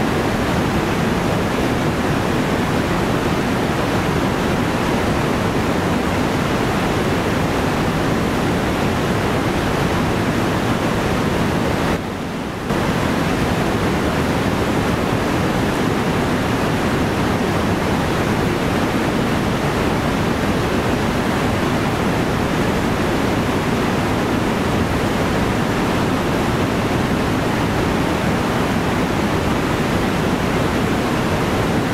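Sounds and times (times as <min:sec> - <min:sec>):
water rushing over rocks: 0:00.0 - 0:31.9.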